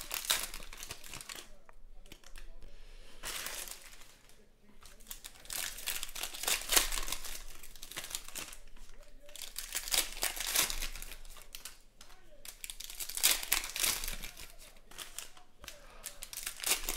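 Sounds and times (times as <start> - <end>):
foil wrapper crinkling and tearing: 0.0 - 2.6, 3.2 - 16.9.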